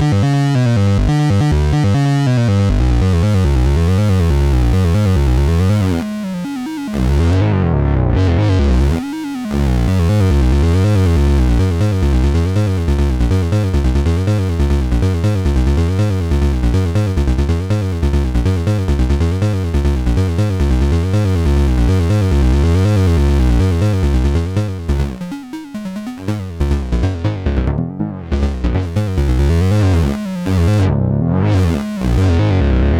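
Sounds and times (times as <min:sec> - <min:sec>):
higher synth notes: 0:00.0 - 0:32.9
sequenced synth bass line: 0:00.0 - 0:32.9.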